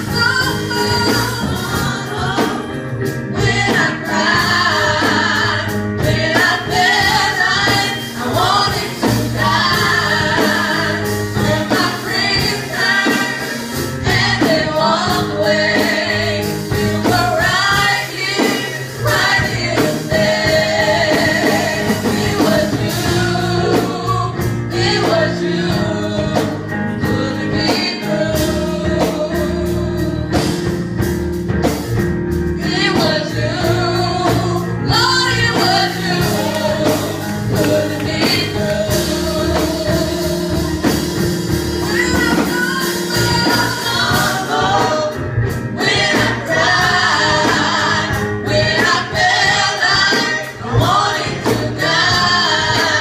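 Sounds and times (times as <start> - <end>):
women singing gospel: 0.0 - 30.8, 32.5 - 53.0.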